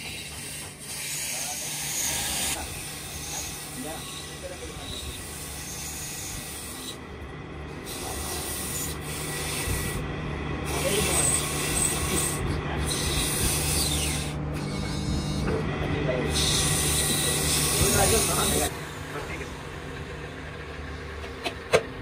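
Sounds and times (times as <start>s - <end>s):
lathe motor humming: 0.0s - 22.0s.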